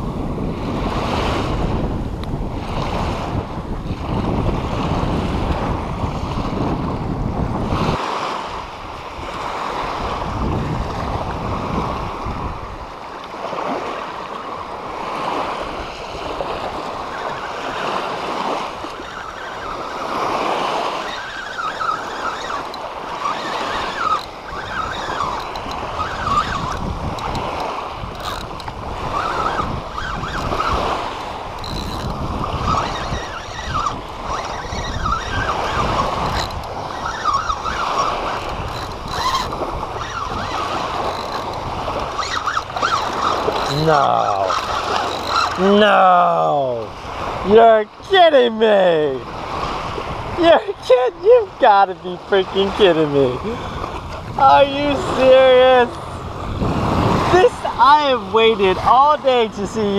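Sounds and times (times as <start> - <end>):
small waves washing on shore: 0.0 - 59.9
wind buffeting microphone: 0.0 - 59.9.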